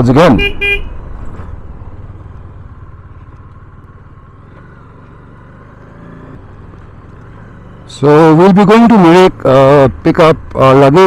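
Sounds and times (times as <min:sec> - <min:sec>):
road noise: 0:00.0 - 0:11.0
motorcycle engine running: 0:00.4 - 0:11.0.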